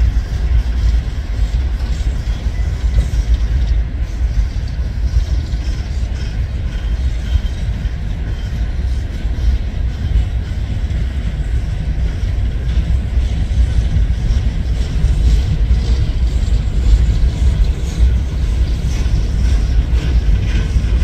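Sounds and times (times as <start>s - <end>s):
faint high wheel squeals: 0.0s - 21.0s
train wheels rumbling on rails: 0.0s - 21.0s.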